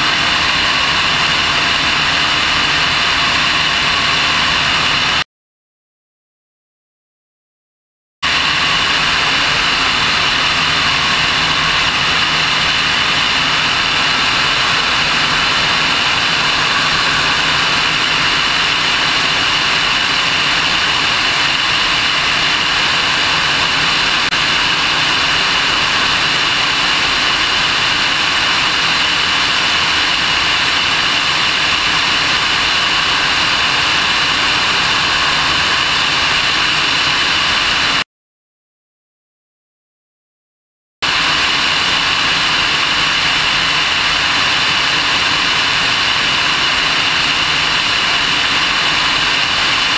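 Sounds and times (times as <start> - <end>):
plane engine and propeller drone: 0.0 - 5.2, 8.2 - 38.0, 41.0 - 49.9.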